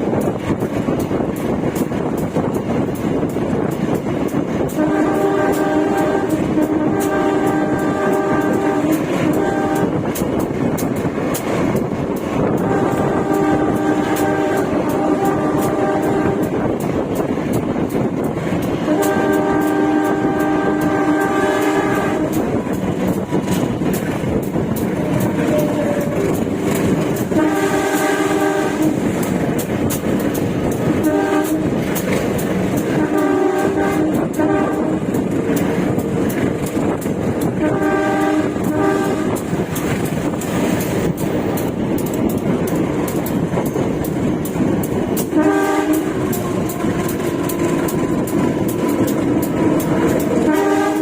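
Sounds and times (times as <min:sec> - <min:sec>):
moving train running noise: 0:00.0 - 0:51.0
wheels clicking over rail joints: 0:00.0 - 0:51.0
train horn blasts: 0:04.4 - 0:10.7, 0:11.8 - 0:40.0, 0:44.5 - 0:51.0.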